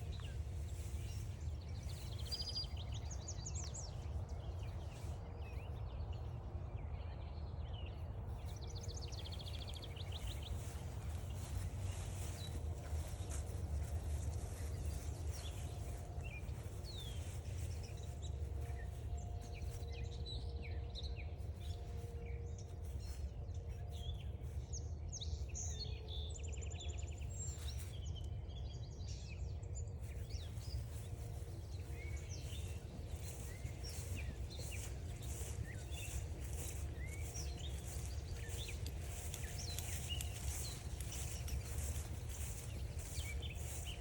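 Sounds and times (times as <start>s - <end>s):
steady low rumble: 0.0s - 44.0s
wild birds chirping and singing: 0.0s - 44.0s.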